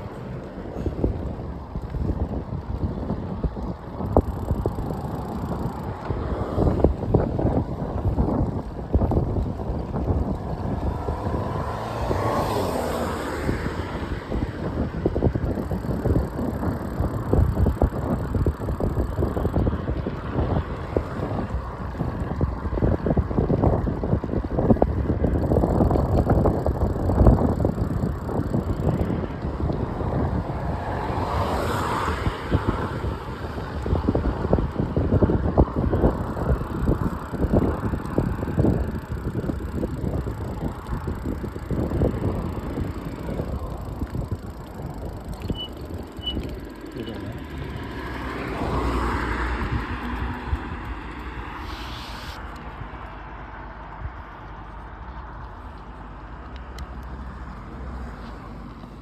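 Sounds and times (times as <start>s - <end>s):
rolling road noise: 0.0s - 59.0s
wind buffeting microphone: 0.0s - 59.0s.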